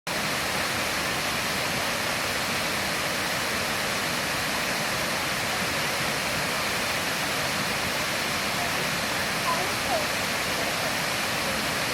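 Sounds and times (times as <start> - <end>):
waterfall splashing: 0.1 - 11.9.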